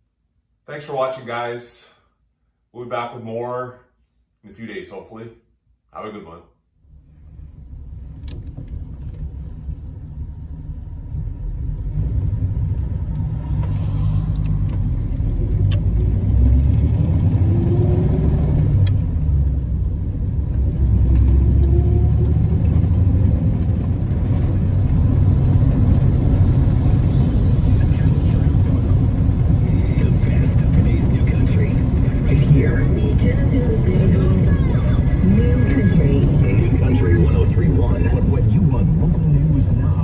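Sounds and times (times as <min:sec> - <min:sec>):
car engine rumble: 0:06.8 - 0:40.0
road noise: 0:06.8 - 0:40.0.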